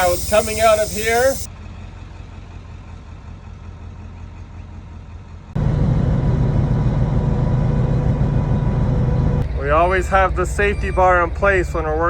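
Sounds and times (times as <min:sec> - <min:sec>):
truck engine rumbling: 0:00.0 - 0:02.8, 0:04.7 - 0:12.0.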